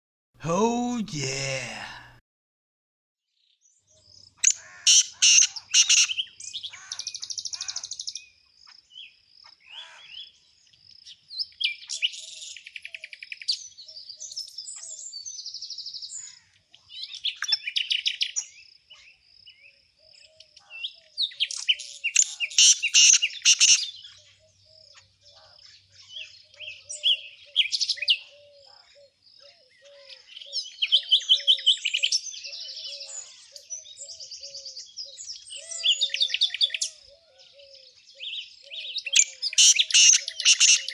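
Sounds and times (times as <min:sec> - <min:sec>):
songbirds chirping and trilling: 0:03.4 - 0:40.9.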